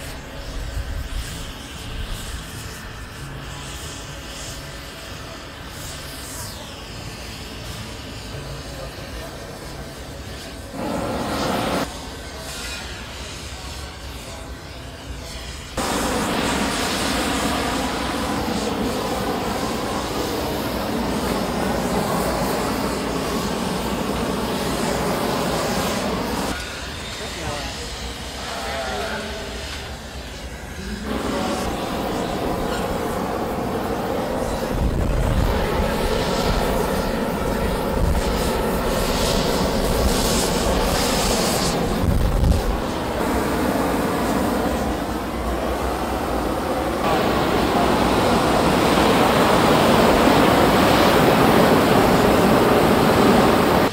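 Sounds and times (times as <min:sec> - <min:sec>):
gas torch flame hissing: 0:00.0 - 0:53.9.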